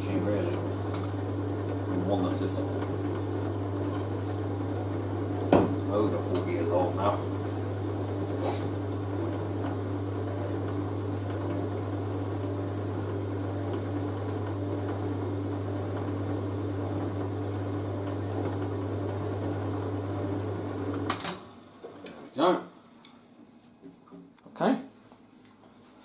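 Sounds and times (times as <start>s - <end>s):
washing machine humming: 0.0s - 23.3s.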